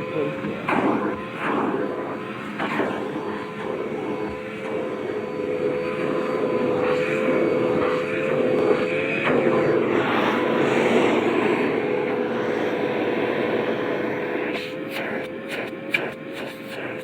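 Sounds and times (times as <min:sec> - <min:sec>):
vacuum cleaner whining hum: 0:00.0 - 0:17.0.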